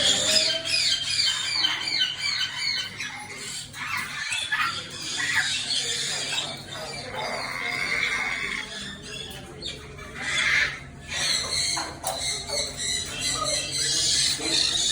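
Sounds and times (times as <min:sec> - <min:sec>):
birds squawking and calling: 0:00.0 - 0:14.9.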